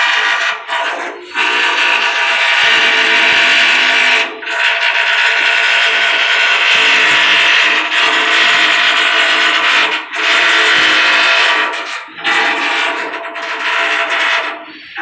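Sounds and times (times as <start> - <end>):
loud machine whine: 0.0 - 15.0.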